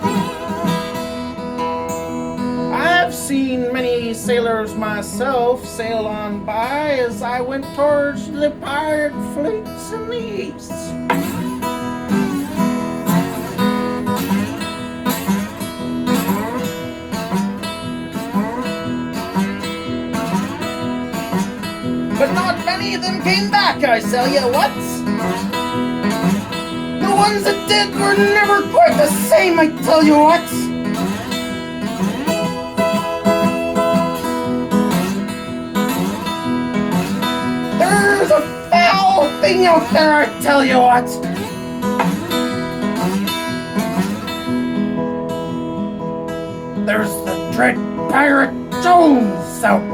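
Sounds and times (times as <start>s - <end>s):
acoustic guitar chords strummed: 0.0s - 49.9s.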